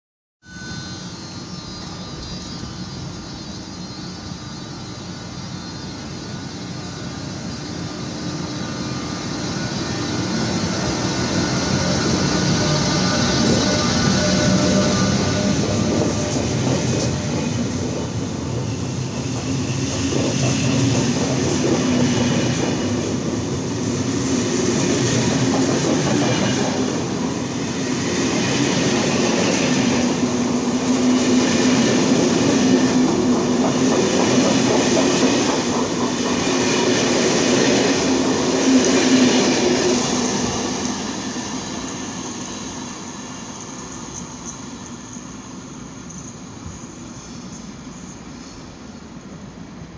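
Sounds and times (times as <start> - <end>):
train wheels rumbling on rails: 0.8 - 49.9.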